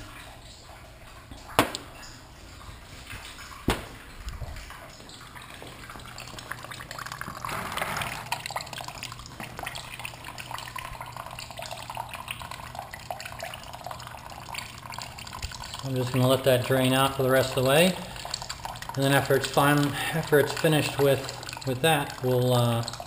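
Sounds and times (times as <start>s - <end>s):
liquid trickling into liquid: 0.0s - 23.0s.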